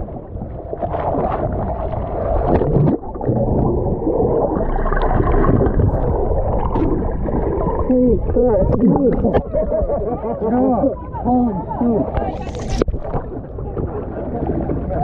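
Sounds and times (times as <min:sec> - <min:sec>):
muffled underwater seawater rushing: 0:00.0 - 0:15.0.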